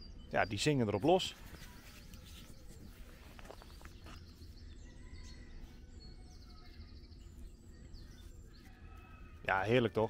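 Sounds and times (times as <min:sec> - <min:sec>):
songbirds singing: 0:00.0 - 0:10.0.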